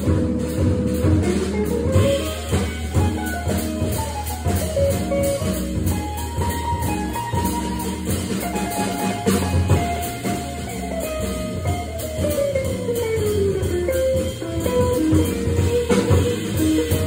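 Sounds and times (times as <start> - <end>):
drum kit and cymbals: 0.0 - 17.0
electric guitar: 1.2 - 17.0.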